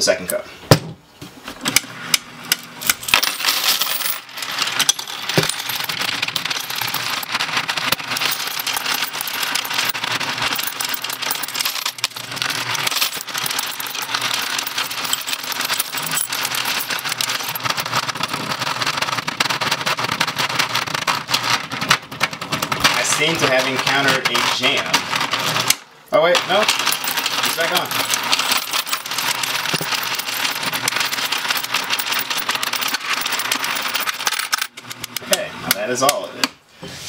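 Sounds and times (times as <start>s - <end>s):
coin sorter rattling: 2.5s - 35.2s
coins poured into hopper: 2.8s - 34.7s.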